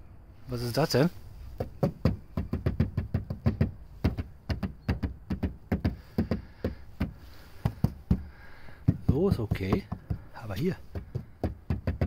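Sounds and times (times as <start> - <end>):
hand knocking on trim panels: 1.6 - 12.0.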